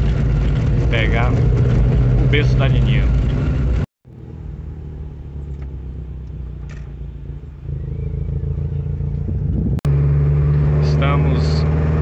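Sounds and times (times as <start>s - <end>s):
car engine hum from cabin: 0.0s - 12.0s.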